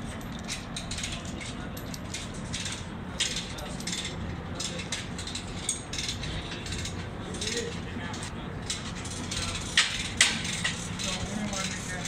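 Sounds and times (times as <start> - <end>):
metallic clinks and rattles: 0.0 - 12.0.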